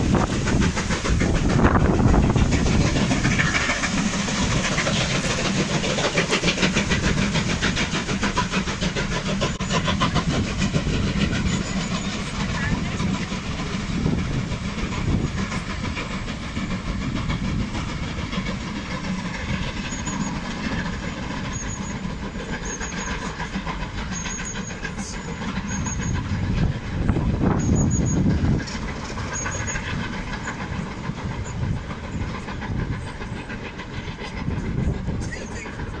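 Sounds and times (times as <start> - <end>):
diesel locomotives passing: 0.0 - 36.0
train coaches rolling past: 0.0 - 36.0.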